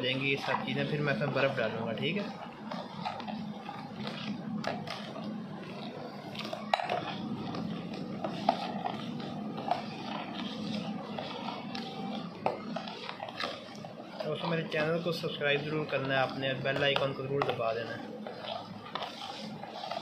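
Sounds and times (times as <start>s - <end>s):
ladle stirring liquid in pot: 0.0s - 20.0s.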